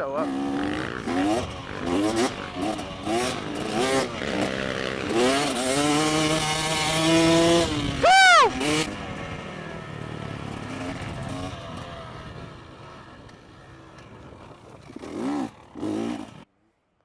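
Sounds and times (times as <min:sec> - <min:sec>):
motorcycle engines revving: 0:00.0 - 0:16.5.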